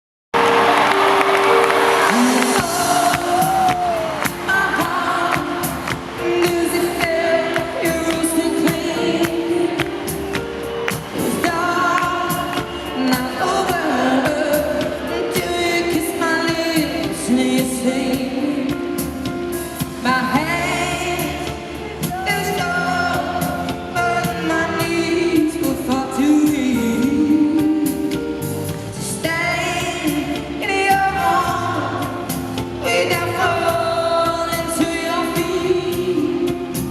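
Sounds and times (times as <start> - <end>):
live band playing: 0.4 - 36.9
woman singing: 2.0 - 10.4, 11.2 - 36.9.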